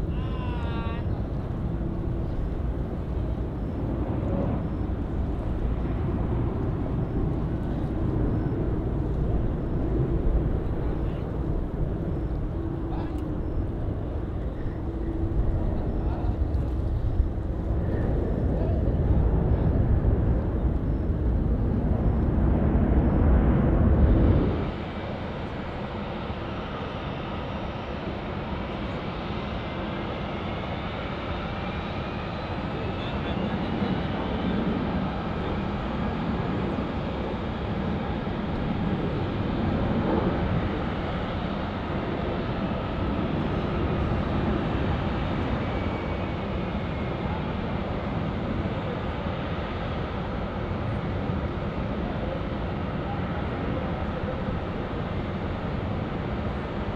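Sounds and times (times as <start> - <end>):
aircraft engine rumble: 0.0 - 56.9.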